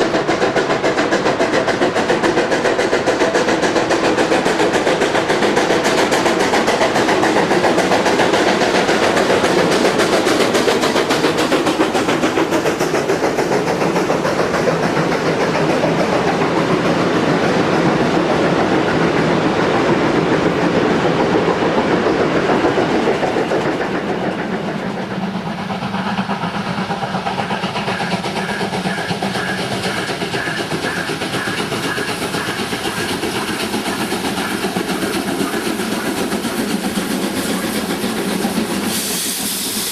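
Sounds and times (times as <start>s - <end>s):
train running on track: 0.0s - 39.9s.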